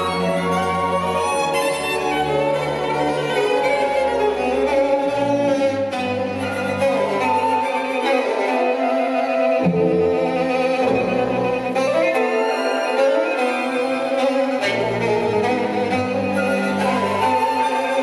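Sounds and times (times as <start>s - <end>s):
violin over low strings: 0.0s - 18.0s.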